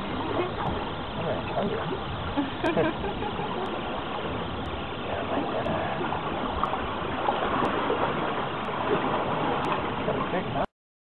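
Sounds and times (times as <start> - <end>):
seawater sloshing into tide pool: 0.0 - 10.7
surf: 0.0 - 10.7.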